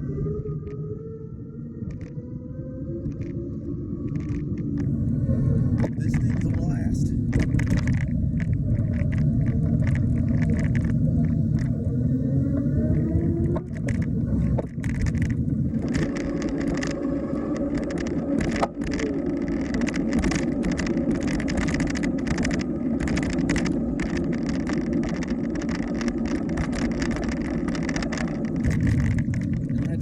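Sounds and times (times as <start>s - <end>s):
electric bike riding rumble: 0.0s - 30.0s.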